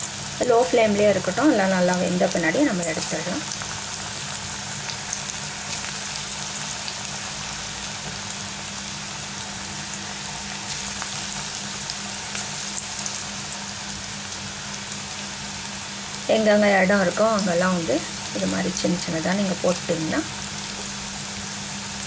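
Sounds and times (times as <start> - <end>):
batter sizzling in hot oil: 0.0 - 22.0.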